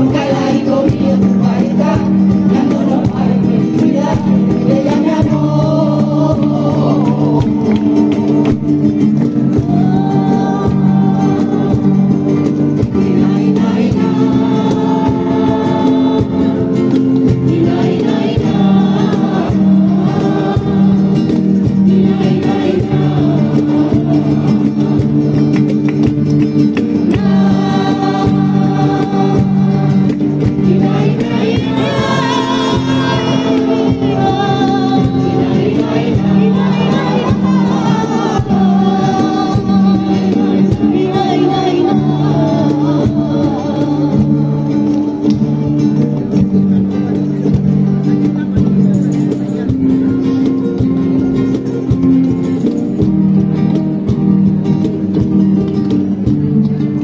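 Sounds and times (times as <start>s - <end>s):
group singing in chorus: 0.0s - 47.4s
rhythmic hand clapping: 0.0s - 57.0s
strummed nylon-string guitars: 0.0s - 57.0s.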